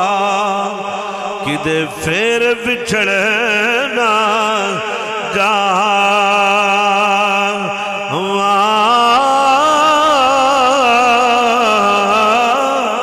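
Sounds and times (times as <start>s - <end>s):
man singing with vibrato: 0.0s - 13.0s.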